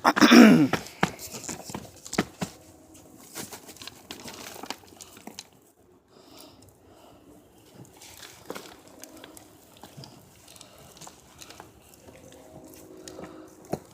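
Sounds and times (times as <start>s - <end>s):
grow bag rustling and crackling: 0.9s - 13.9s.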